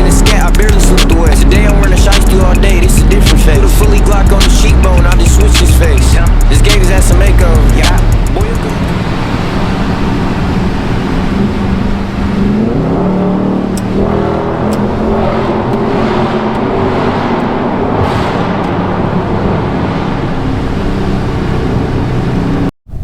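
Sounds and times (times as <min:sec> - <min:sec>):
car engine accelerating: 0:00.0 - 0:23.0
road noise: 0:00.0 - 0:23.0.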